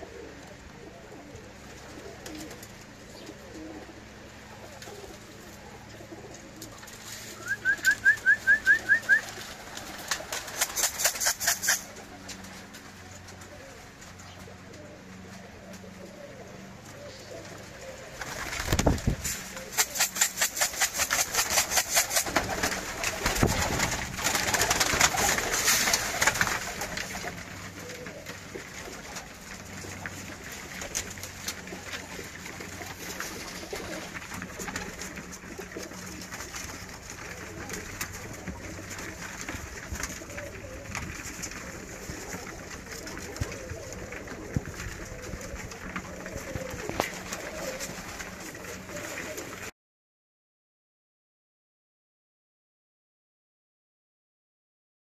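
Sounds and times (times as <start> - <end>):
pigeons cooing: 0.0 - 49.7
wings flapping: 0.0 - 49.7.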